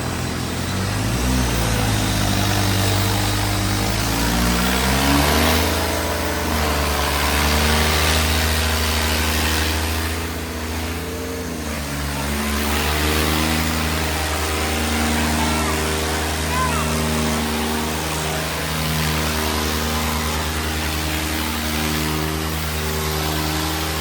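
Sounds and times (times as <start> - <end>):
tractor diesel engines under load: 0.0 - 24.0.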